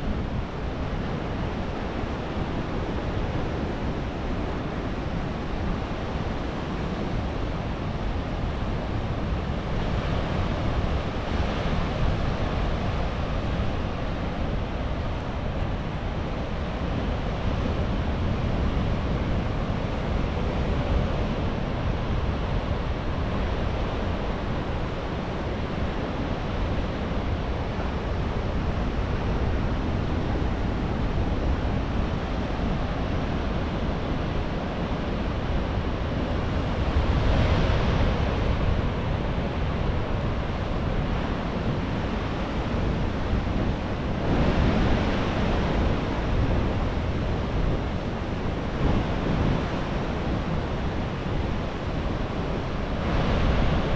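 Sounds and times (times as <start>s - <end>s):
surf breaking and washing: 0.0s - 53.9s
wind buffeting microphone: 0.0s - 53.9s.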